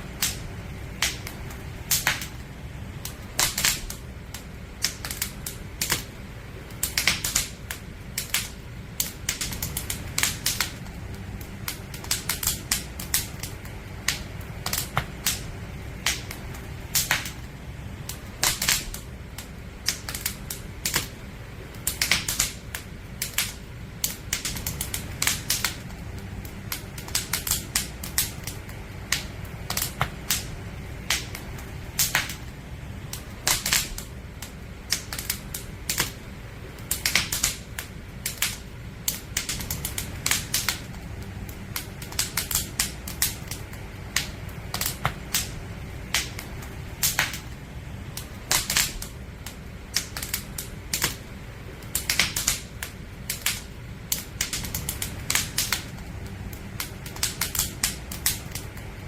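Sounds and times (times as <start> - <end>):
campfire crackling: 0.0 - 59.0
low rumble of flames: 0.0 - 59.0.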